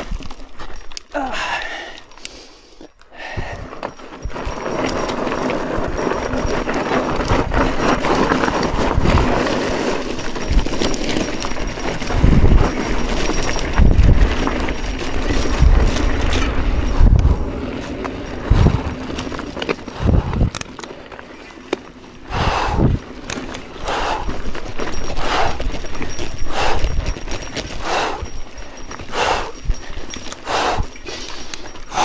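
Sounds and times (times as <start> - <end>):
bike rattling: 0.0 - 2.2, 3.1 - 32.0
bike tyres crunching over dirt: 0.0 - 2.2, 3.2 - 32.0.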